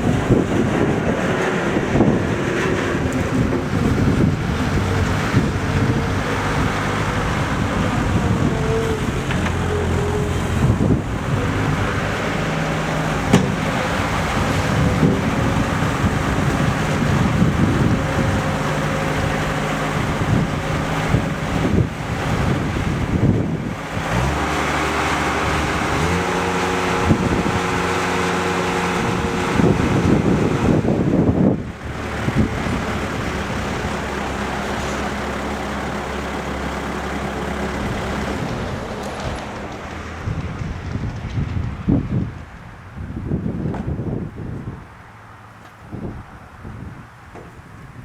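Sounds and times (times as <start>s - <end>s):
diesel engine revving: 0.0s - 47.1s.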